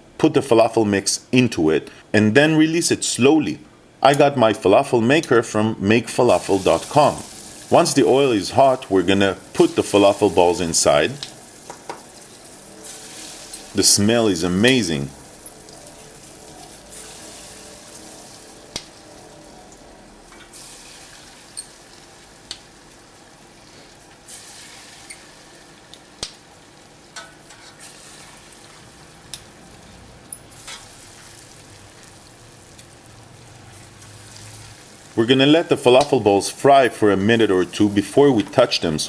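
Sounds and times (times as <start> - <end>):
oil sizzling and popping: 6.2 - 39.0.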